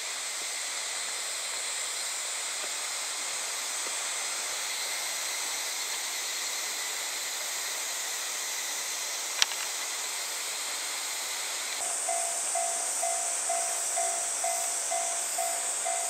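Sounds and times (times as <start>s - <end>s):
insects shrilling: 0.5s - 16.0s.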